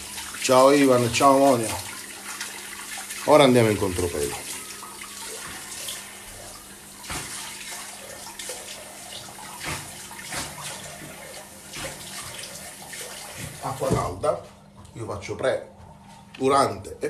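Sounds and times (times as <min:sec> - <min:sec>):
tap water running into sink: 0:00.0 - 0:14.2
water splashes: 0:00.0 - 0:14.2.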